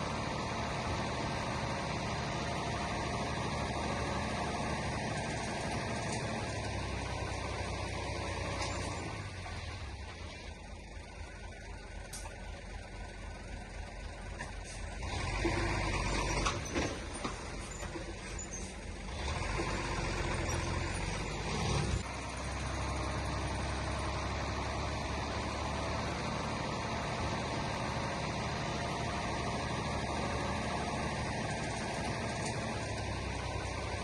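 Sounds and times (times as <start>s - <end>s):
diesel machinery engine drone: 0.0s - 34.0s.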